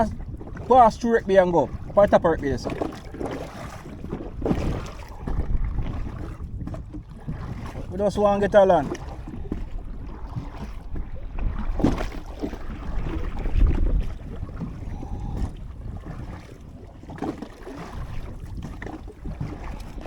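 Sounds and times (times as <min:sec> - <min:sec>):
water splashing from paddling: 0:00.0 - 0:20.0
wind buffeting microphone: 0:00.0 - 0:20.0.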